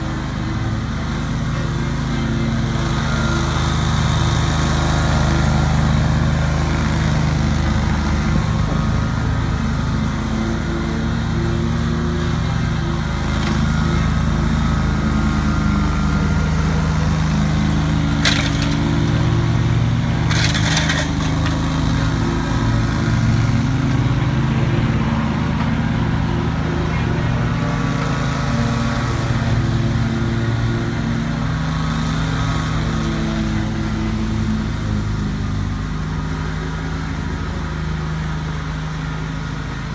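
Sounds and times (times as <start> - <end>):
blades cutting grass: 0.0 - 39.9
mower engine running: 0.0 - 39.9.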